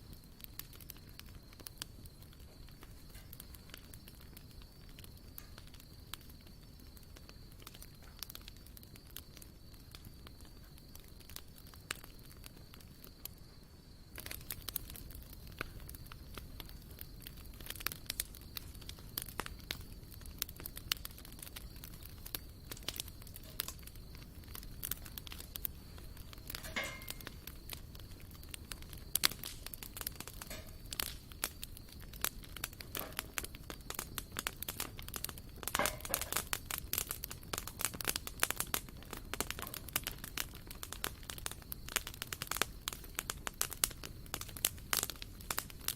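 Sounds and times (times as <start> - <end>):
wood campfire crackling: 0.0 - 45.9.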